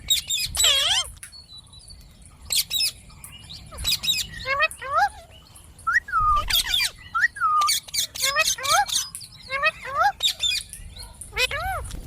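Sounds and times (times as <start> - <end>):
parakeet chirps and squawks: 0.0 - 1.2, 1.9 - 12.0.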